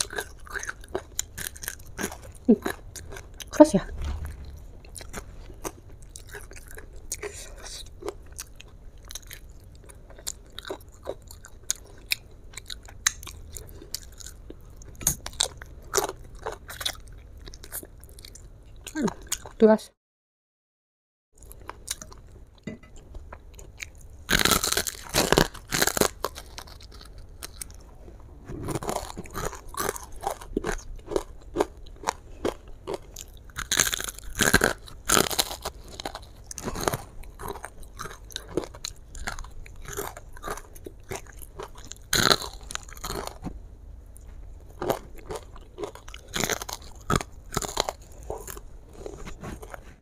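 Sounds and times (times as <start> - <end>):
chewing crispy fried chicken: 0.0 - 4.1, 5.0 - 19.6, 23.0 - 50.0.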